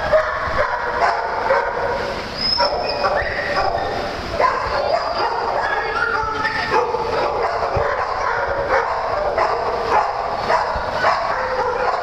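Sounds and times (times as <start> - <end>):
small dogs barking: 0.0 - 12.0
dogs whining: 2.3 - 12.0.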